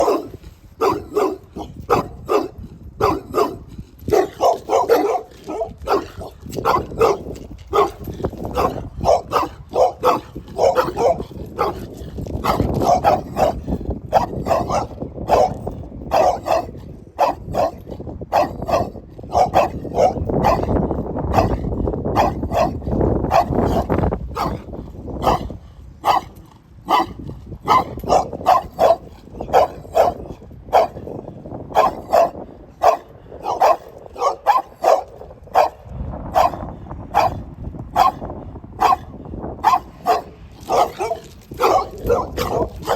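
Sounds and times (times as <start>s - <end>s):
dog barking: 0.0s - 42.9s.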